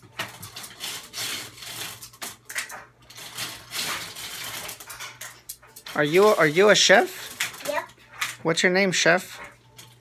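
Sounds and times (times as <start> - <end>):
plastic toy pieces rattling in bowl: 0.1 - 8.5.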